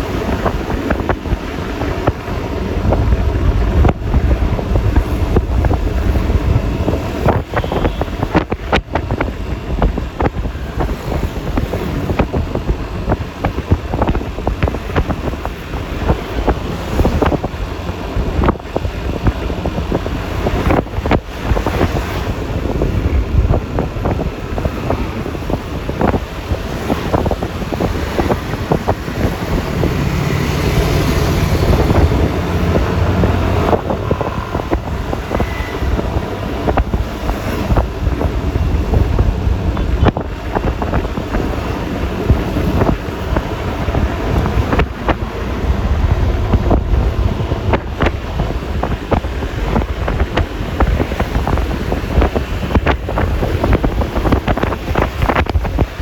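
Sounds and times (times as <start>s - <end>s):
road noise and traffic: 0.0s - 56.0s
wind buffeting microphone: 0.0s - 56.0s.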